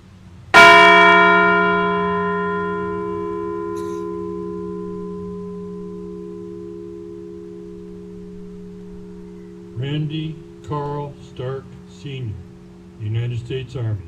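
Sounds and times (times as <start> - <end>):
bell ringing: 0.6 - 14.0.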